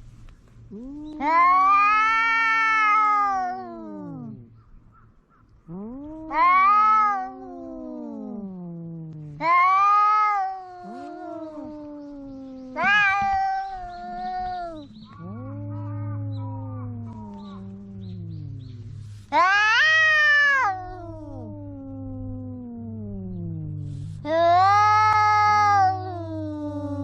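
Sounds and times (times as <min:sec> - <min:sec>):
cats caterwauling: 0:00.7 - 0:04.6, 0:05.7 - 0:27.0
cat yowling loudly: 0:00.8 - 0:04.4, 0:06.1 - 0:08.6, 0:09.4 - 0:27.0.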